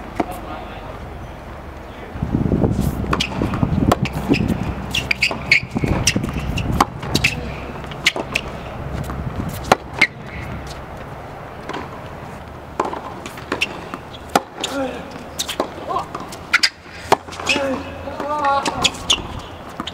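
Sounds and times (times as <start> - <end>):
court shoes squeaking: 0.0 - 19.9
racquets striking tennis ball: 2.7 - 19.9
tennis ball bouncing: 2.8 - 19.9.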